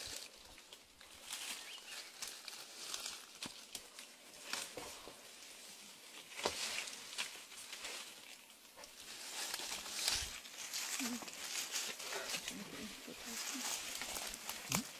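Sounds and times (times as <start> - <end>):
leaves rustling: 0.0 - 14.9
stems crackling and snapping: 0.0 - 14.9.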